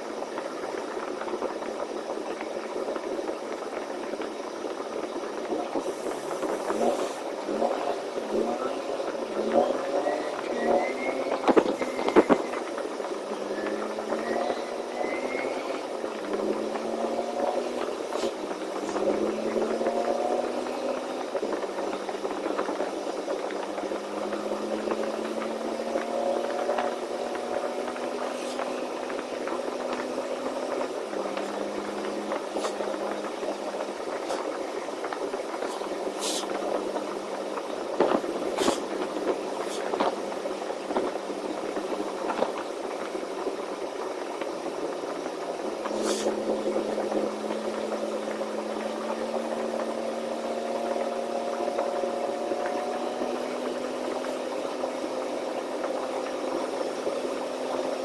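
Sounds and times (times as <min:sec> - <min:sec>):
truck diesel engine shifting gears: 0:00.0 - 0:58.0.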